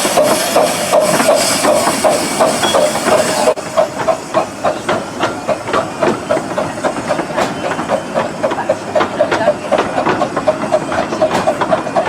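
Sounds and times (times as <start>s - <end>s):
loud steam hiss: 0.0s - 12.0s
train wheels clattering: 0.0s - 12.0s.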